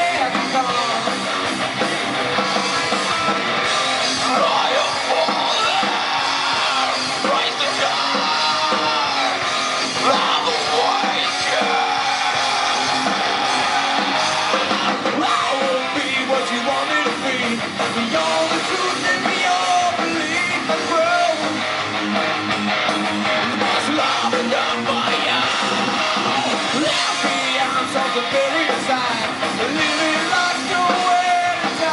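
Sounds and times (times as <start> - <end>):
person singing and shouting: 0.0 - 1.3, 3.9 - 21.7, 23.4 - 31.9
drums: 0.0 - 31.9
electric guitars: 0.0 - 31.9.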